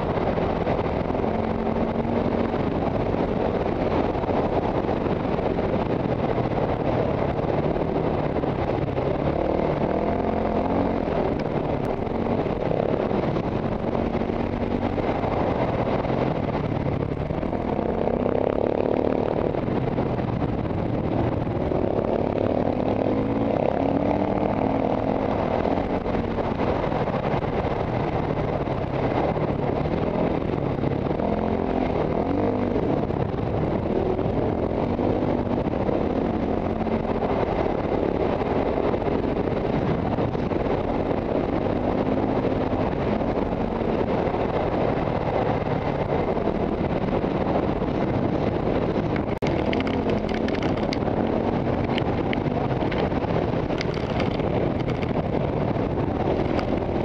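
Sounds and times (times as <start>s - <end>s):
wind noise on camera: 0.0s - 57.0s.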